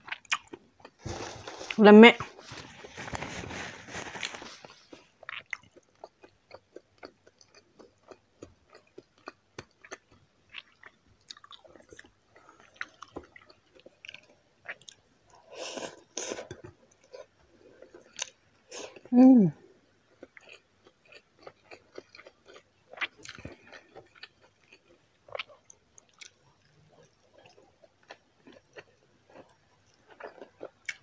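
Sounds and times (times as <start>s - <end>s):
close-up chewing: 0.0s - 19.1s, 19.9s - 31.0s.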